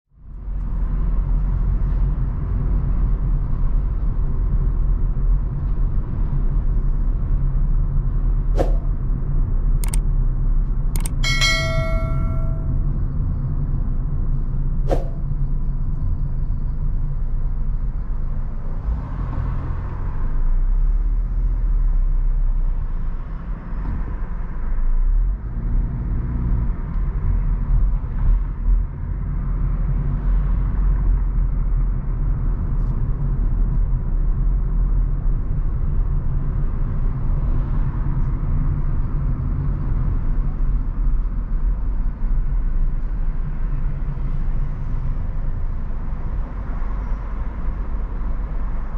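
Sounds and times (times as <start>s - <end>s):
car engine and road noise: 0.1s - 48.9s.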